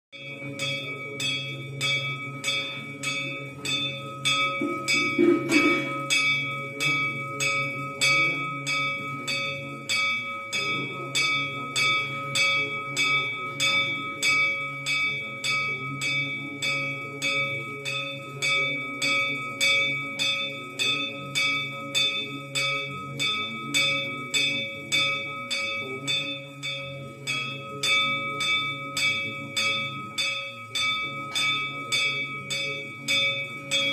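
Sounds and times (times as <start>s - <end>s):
metal temple bell ringing: 0.2s - 33.9s.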